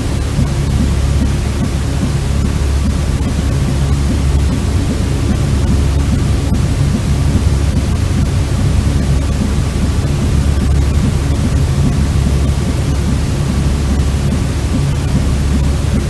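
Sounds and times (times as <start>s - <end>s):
steady white noise hiss: 0.0s - 16.0s.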